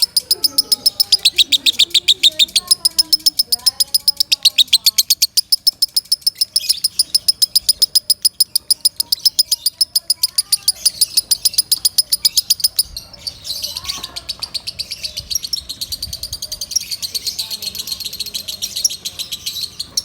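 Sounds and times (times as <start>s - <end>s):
bird chattering rapidly: 0.0s - 20.0s.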